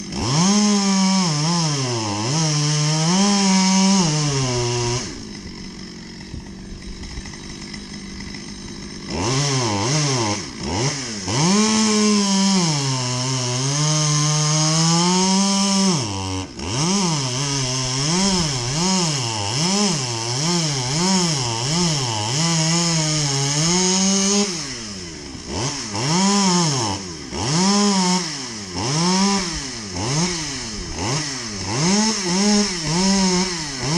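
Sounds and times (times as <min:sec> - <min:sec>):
chainsaw running and cutting: 0:00.0 - 0:33.9.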